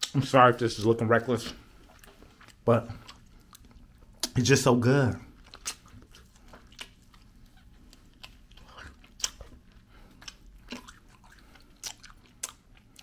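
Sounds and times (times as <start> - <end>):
person chewing food: 1.4 - 4.4, 5.2 - 13.0.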